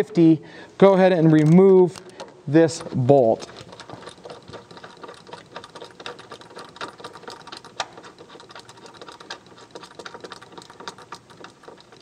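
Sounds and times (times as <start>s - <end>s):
hand ratchet clicking: 1.2s - 12.0s.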